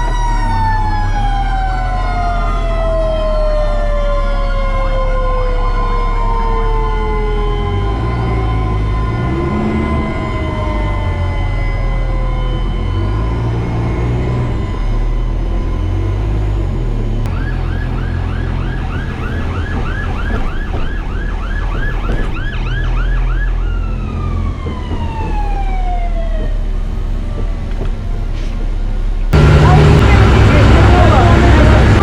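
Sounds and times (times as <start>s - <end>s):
fire truck siren: 0.0s - 28.1s, 29.3s - 32.0s
heavy low engine rumble: 0.0s - 32.0s.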